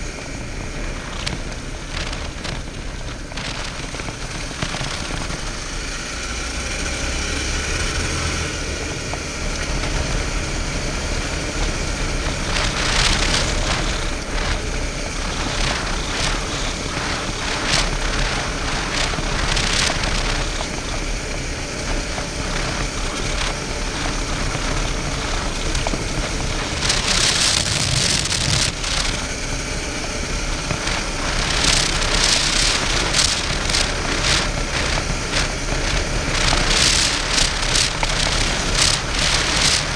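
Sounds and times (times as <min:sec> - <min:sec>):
motorcycle engine running: 0:00.0 - 0:39.9
wind and tyre noise: 0:00.0 - 0:39.9.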